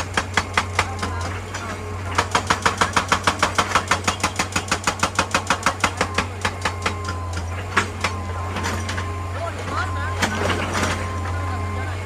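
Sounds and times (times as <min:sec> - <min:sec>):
diesel engine humming: 0:00.0 - 0:12.0
hydraulic breaker hammering rock: 0:00.0 - 0:12.0.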